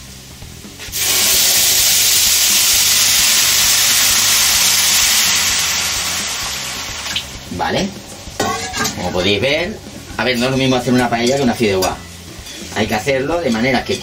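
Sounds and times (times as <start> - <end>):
hiss and sizzle in pan: 0.0 - 14.0.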